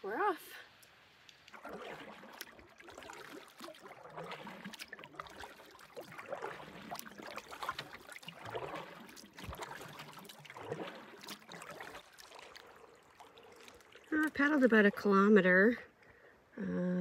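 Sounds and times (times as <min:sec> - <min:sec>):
water lapping along hull: 0:00.0 - 0:16.7
paddle strokes in water: 0:00.8 - 0:15.3.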